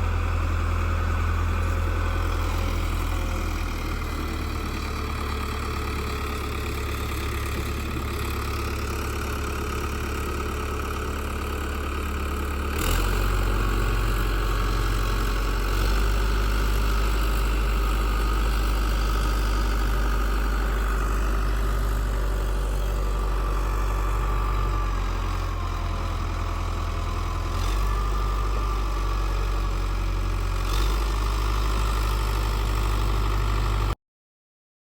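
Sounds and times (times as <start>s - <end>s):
diesel engine running: 0.0s - 34.0s
engine knock: 2.2s - 34.0s.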